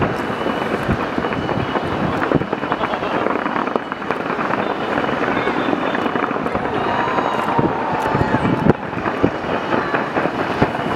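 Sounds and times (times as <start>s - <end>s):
fireworks crackling: 0.0s - 10.9s
sharp firework cracks: 0.0s - 10.9s.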